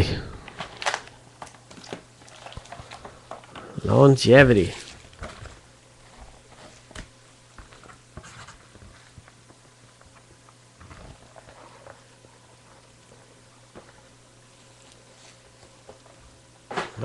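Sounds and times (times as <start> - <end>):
low electrical hum: 0.0 - 17.0
items rustling and clicking: 0.4 - 3.8, 4.7 - 17.0.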